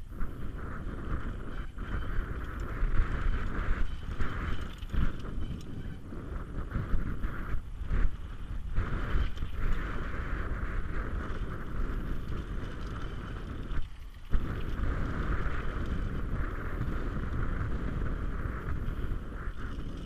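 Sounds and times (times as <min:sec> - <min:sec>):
bike tyres rattling on dirt: 0:00.0 - 0:20.0
wind buffeting microphone: 0:00.0 - 0:20.0.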